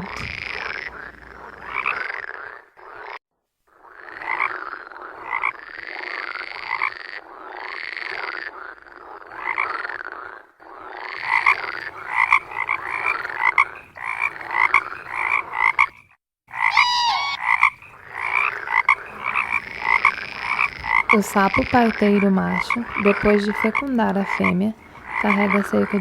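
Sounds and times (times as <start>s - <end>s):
frogs croaking: 0.0s - 26.0s
sliding frog call: 0.0s - 26.0s.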